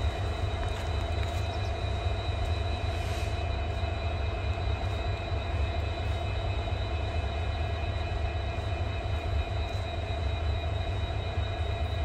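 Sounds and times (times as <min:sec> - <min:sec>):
trains rumbling: 0:00.0 - 0:12.0.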